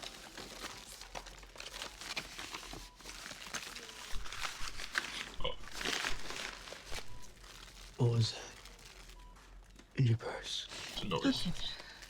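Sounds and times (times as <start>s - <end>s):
rummaging through a purse: 0.0s - 10.0s.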